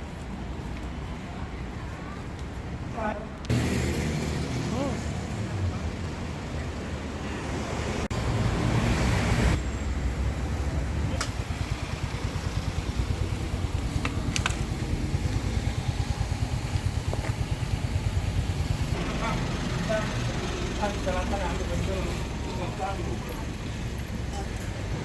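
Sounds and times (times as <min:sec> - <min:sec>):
engine rumbling: 0:02.8 - 0:25.0.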